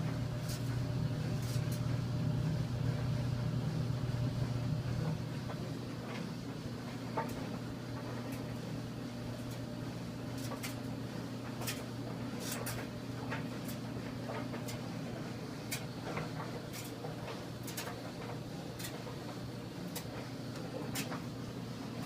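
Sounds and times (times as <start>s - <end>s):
clothes dryer humming: 0.0s - 22.0s
light ticking of dryer: 0.0s - 22.0s.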